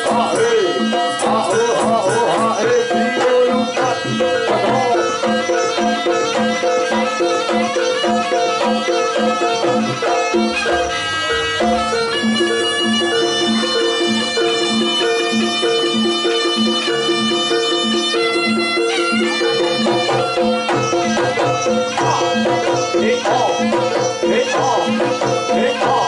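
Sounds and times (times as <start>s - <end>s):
drums: 0.0s - 26.0s
tuned percussion notes: 0.0s - 26.0s
wavering melodic line: 2.4s - 24.8s.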